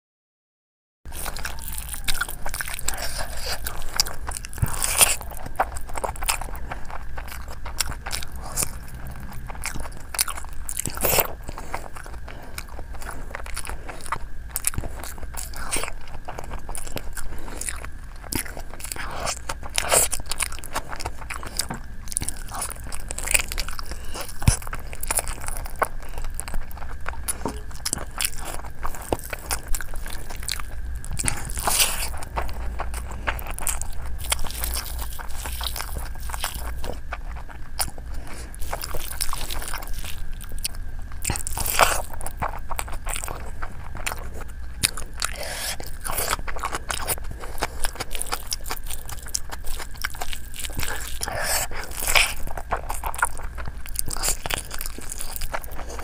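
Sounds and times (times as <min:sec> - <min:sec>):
person chewing and biting: 0:01.1 - 0:56.0
sharp clicks and crunches: 0:01.1 - 0:56.0.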